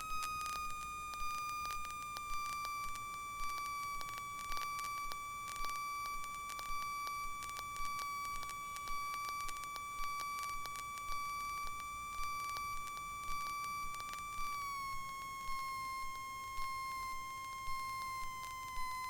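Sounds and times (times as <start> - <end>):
high-pitched electrical whine: 0.0 - 19.0.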